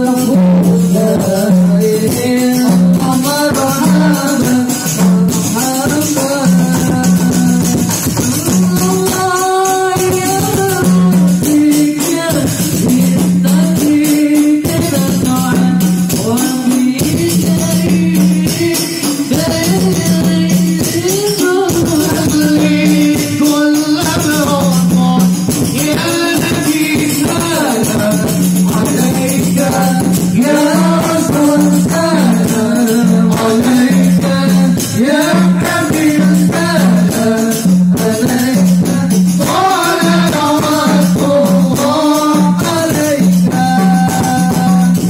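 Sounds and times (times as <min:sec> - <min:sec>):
frame drums playing: 0:00.0 - 0:45.0
male voices singing devotional song: 0:00.0 - 0:45.0.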